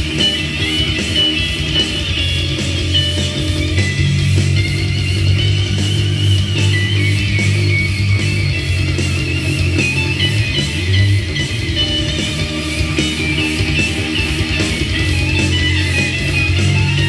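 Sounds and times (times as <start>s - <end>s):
electric guitar with reverb: 0.0s - 17.0s.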